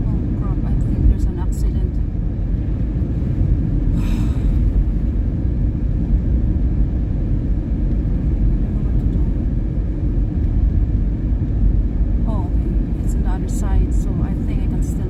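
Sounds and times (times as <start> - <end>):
car tyres on snowy road: 0.0 - 15.0.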